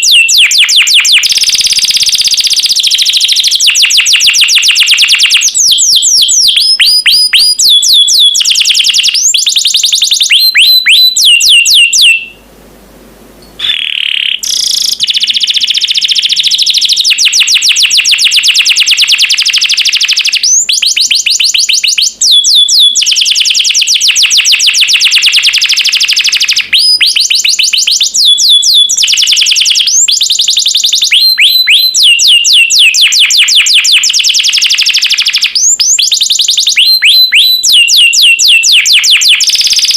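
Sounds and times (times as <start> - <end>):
canary singing trills: 0.0 - 12.4, 13.4 - 39.9.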